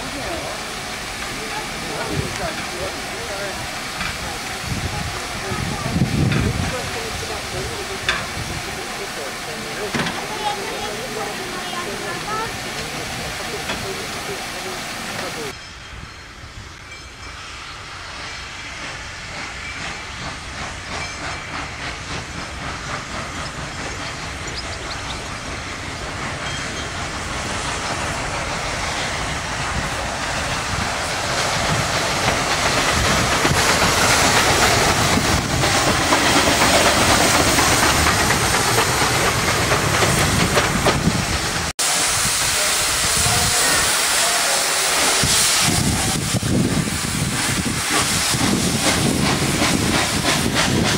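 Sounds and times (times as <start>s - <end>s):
steam hissing: 0.0s - 50.9s
steam locomotive chuffing: 0.0s - 50.9s.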